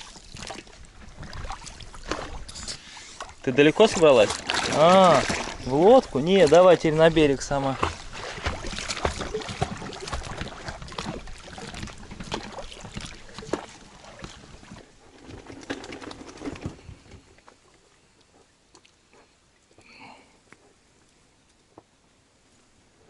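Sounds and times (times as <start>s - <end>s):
water splashing around boat: 0.0s - 19.9s.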